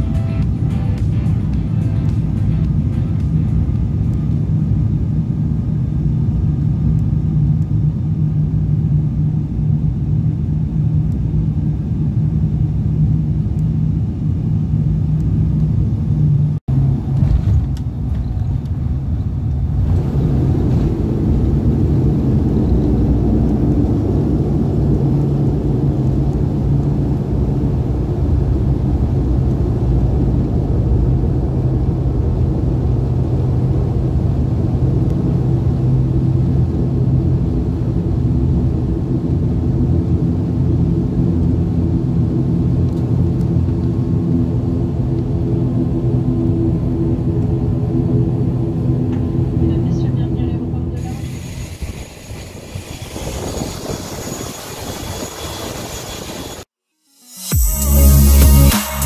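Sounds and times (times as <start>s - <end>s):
propeller drone in aircraft cabin: 0.0s - 56.8s.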